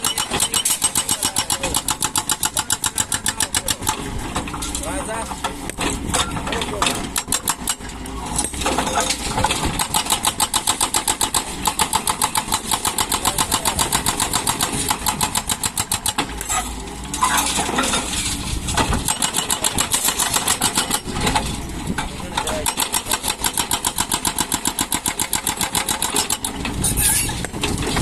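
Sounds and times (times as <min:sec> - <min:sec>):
excavator machinery clattering: 0:00.0 - 0:28.0.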